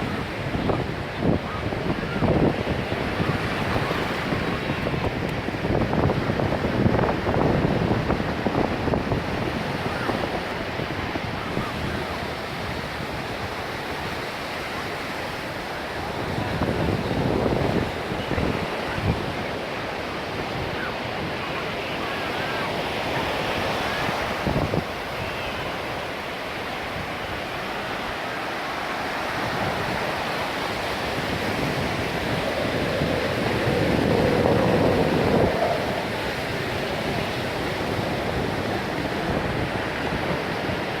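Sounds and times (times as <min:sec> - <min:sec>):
surf rushing: 0:00.0 - 0:41.0
wind buffeting microphone: 0:00.0 - 0:41.0.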